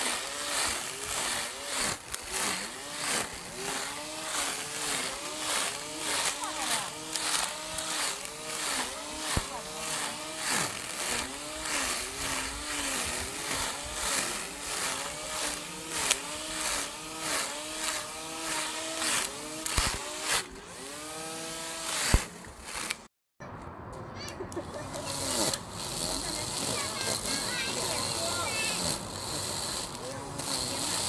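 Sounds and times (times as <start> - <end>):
string trimmer whirring: 0.0 - 23.1, 24.6 - 31.0.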